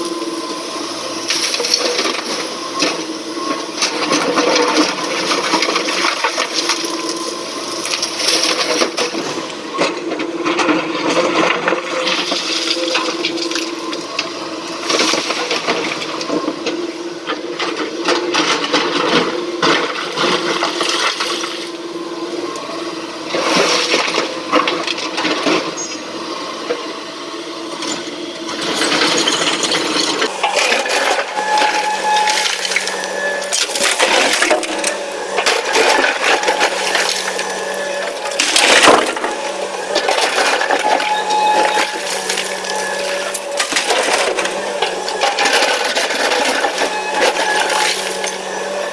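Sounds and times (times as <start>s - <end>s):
excavator engine running: 0.0s - 48.9s.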